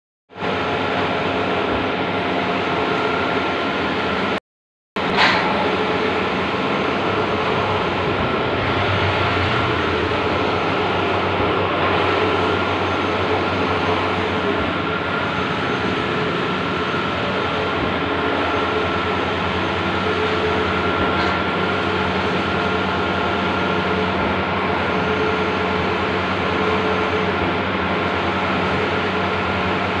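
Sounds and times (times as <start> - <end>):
printer mechanical whir: 5.0 - 30.0.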